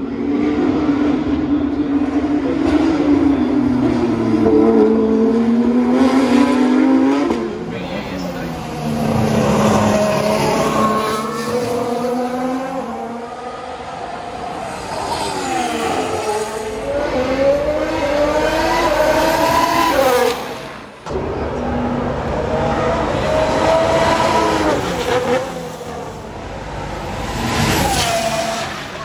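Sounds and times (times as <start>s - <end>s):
racing cars passing: 0.0s - 29.0s.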